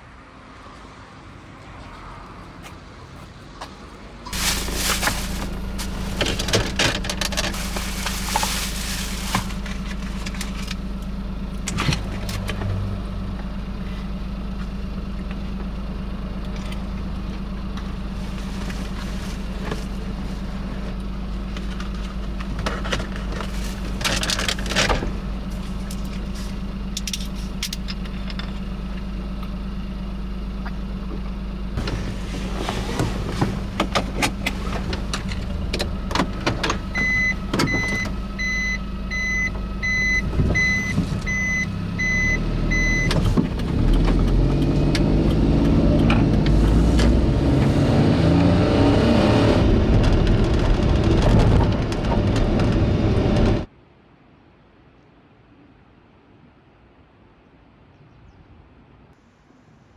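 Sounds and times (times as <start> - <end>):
car engine humming: 4.3 - 53.7.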